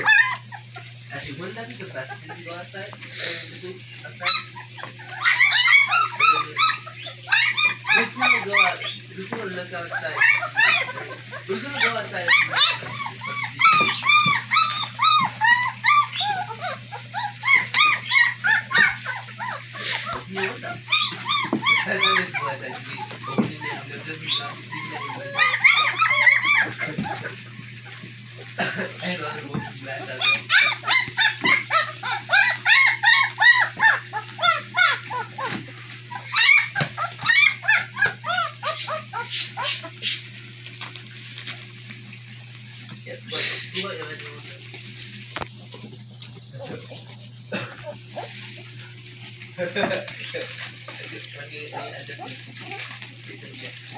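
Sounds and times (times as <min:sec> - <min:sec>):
puppies whining and squealing: 0:00.0 - 0:53.9.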